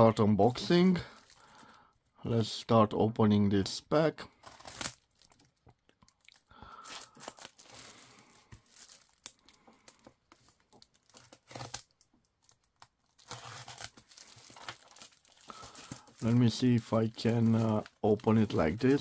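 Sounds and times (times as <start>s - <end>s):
plastic wrapping crinkling and tearing: 1.1s - 1.8s, 4.4s - 19.0s.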